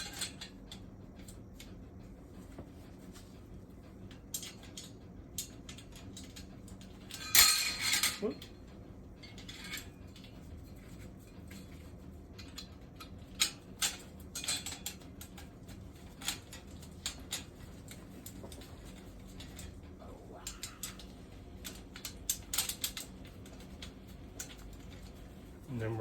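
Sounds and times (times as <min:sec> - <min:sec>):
metal parts clicking and clinking: 0:00.0 - 0:01.8, 0:04.1 - 0:26.0.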